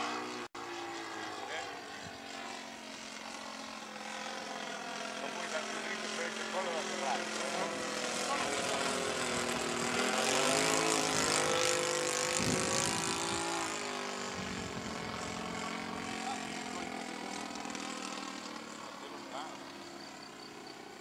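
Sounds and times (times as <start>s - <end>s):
model aircraft engine: 0.0s - 21.0s.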